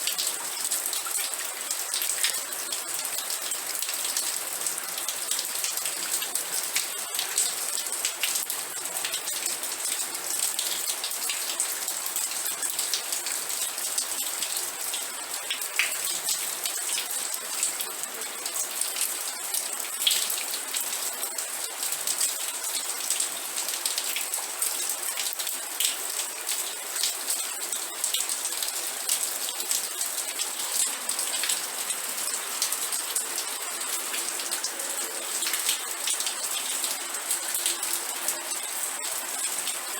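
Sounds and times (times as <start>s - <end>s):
rain falling: 0.0s - 39.9s
raindrops pattering on surface: 0.0s - 39.9s.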